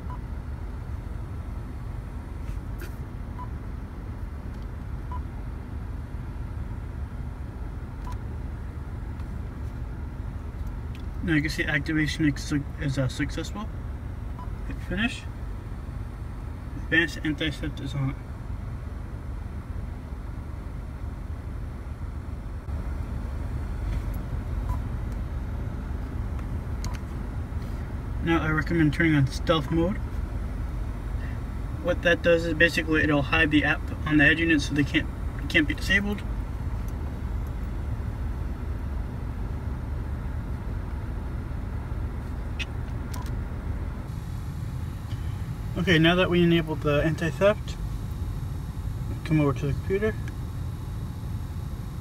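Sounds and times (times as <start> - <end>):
car low rumble: 0.0 - 52.0.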